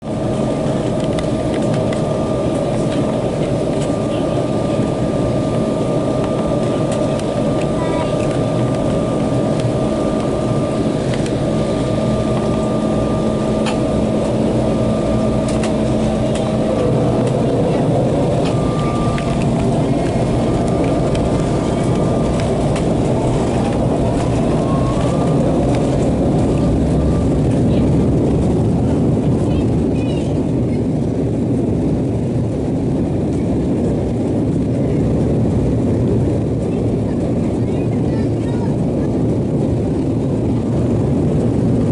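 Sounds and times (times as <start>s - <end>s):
airflow noise: 0.0s - 41.9s
jet engines rumbling and whining: 0.0s - 41.9s.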